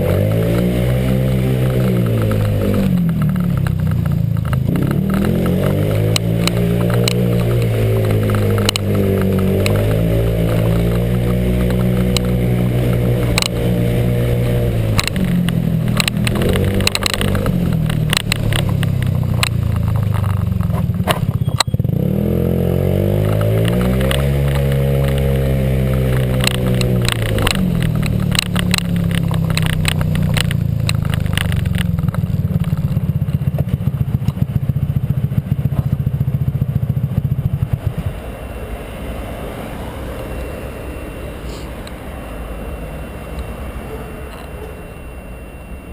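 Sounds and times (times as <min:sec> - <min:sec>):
scooter engine revving: 0:00.0 - 0:45.0.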